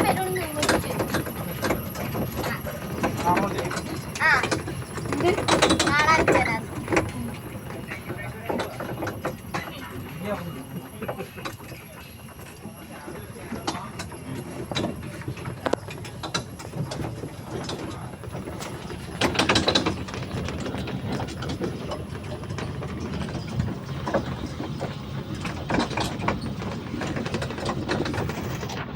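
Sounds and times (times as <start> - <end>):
train carriage rattling: 0.0 - 28.9.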